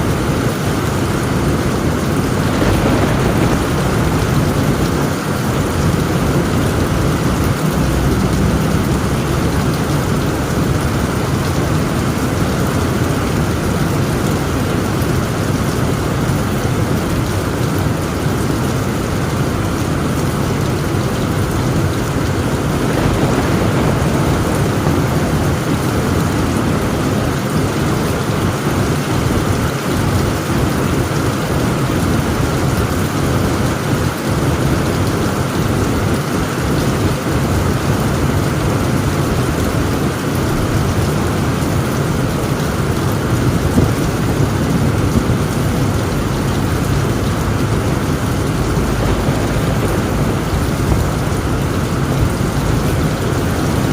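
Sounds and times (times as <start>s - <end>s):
heavy rain on a tent roof: 0.0s - 53.9s
low thunder rumble: 0.0s - 53.9s.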